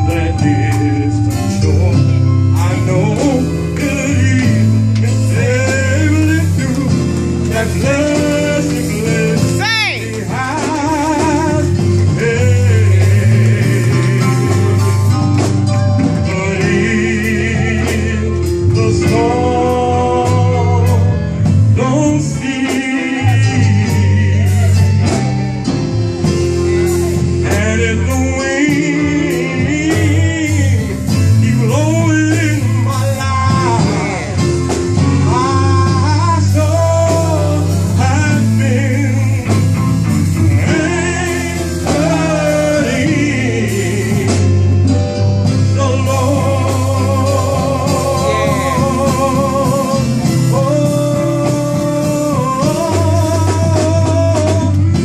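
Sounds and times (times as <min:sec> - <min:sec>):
man singing with vibrato: 0:00.0 - 0:25.2, 0:26.6 - 0:55.0
live band accompaniment: 0:00.0 - 0:55.0
steady bass line: 0:00.0 - 0:55.0.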